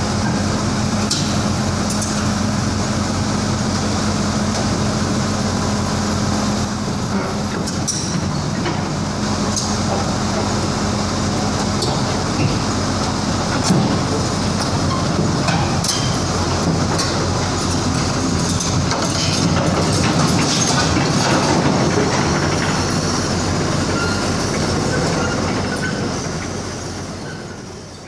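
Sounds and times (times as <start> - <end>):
steel tracks clanking and squealing: 0.0 - 5.4, 6.5 - 28.0
diesel engine under load: 0.0 - 28.0.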